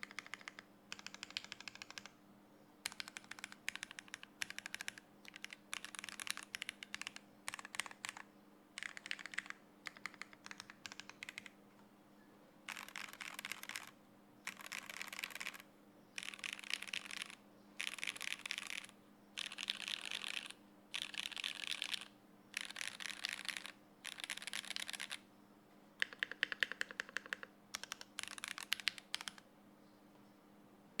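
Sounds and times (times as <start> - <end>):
mechanical keyboard typing: 0.0 - 2.1, 2.8 - 8.2, 8.8 - 11.5, 12.7 - 15.6, 16.2 - 25.2, 26.0 - 29.4.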